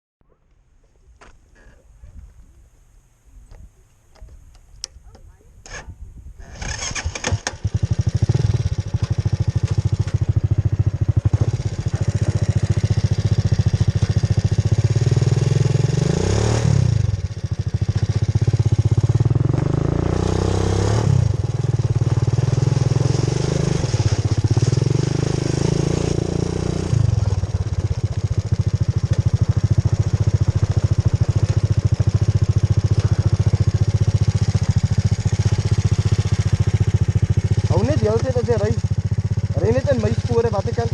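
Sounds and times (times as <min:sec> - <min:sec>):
quad bike engine revving: 0:05.7 - 0:40.9.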